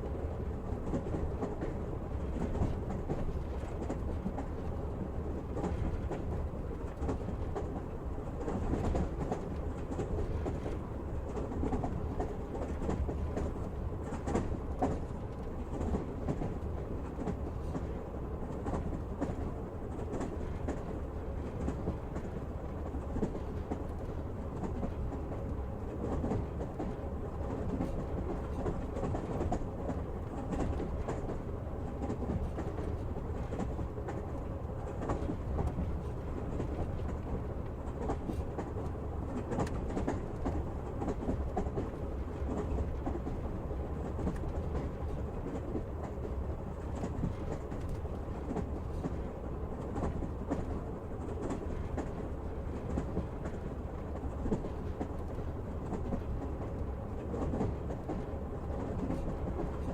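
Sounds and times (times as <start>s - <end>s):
train carriage rumbling: 0.0s - 59.9s.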